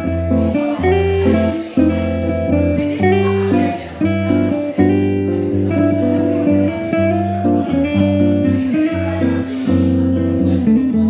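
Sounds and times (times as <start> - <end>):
electric guitar playing: 0.0 - 11.0
sustained low bass notes: 0.0 - 11.0.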